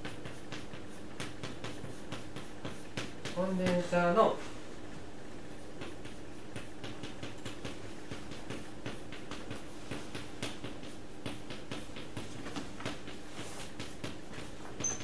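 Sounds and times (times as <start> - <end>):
chalk tapping and scratching on blackboard: 0.0 - 15.0.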